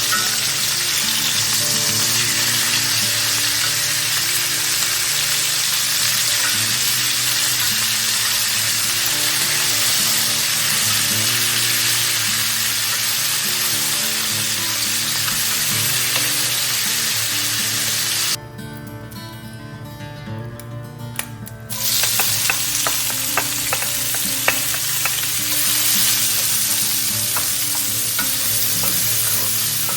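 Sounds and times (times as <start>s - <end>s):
food sizzling in oil: 0.0s - 18.4s, 21.7s - 29.9s
music: 0.0s - 29.9s.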